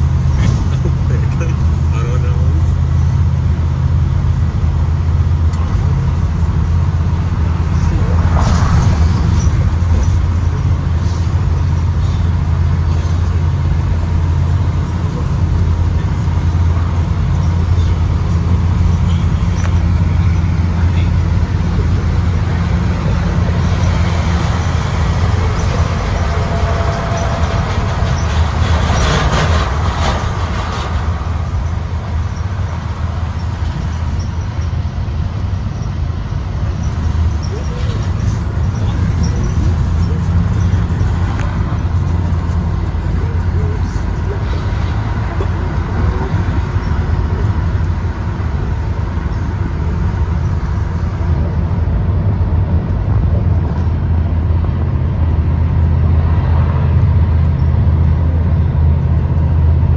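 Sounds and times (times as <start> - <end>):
rattling: 0.0 - 51.5
bus engine droning: 0.0 - 59.9
road noise: 0.0 - 59.9.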